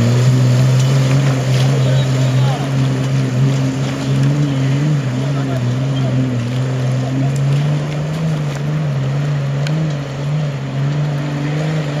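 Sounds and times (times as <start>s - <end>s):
vehicle engine under load: 0.0s - 12.0s
water splashing: 0.0s - 12.0s.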